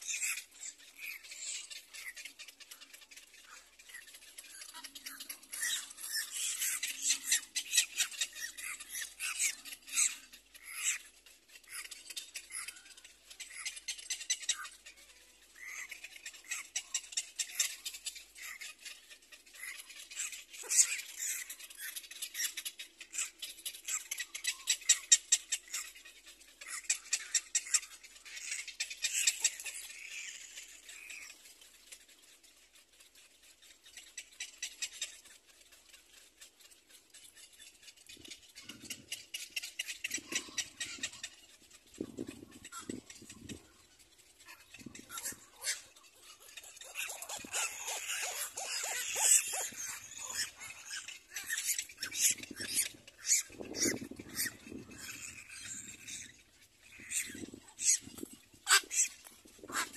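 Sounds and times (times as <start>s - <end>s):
chicks chittering calls: 0.0s - 31.7s, 33.7s - 59.9s.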